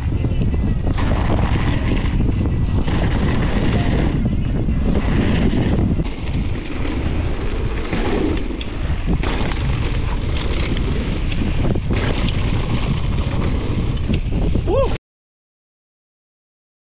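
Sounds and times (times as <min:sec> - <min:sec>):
bike rattling over bumps: 0:00.0 - 0:14.7
bike tyres on gravel: 0:00.0 - 0:14.7
wind buffeting microphone: 0:00.0 - 0:15.0.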